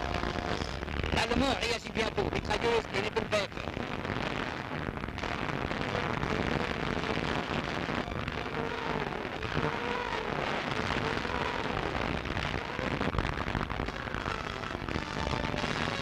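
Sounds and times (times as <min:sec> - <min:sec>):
film soundtrack hiss: 0:00.0 - 0:16.0.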